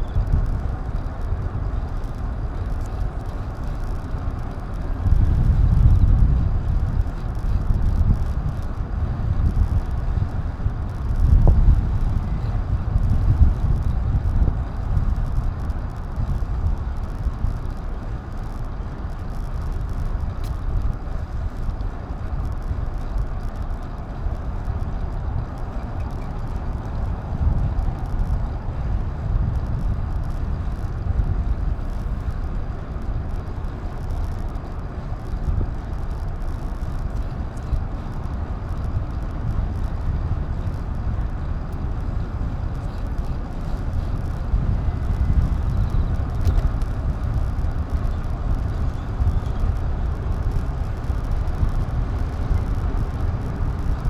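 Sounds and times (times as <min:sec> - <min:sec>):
road noise: 0:00.0 - 0:54.0
wind rumble: 0:00.0 - 0:54.0.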